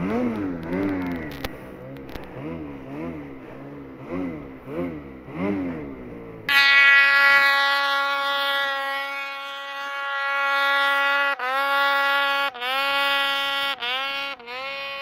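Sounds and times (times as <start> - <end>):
high engine drone: 0.0 - 15.0
snowmobile engine revving: 0.0 - 15.0.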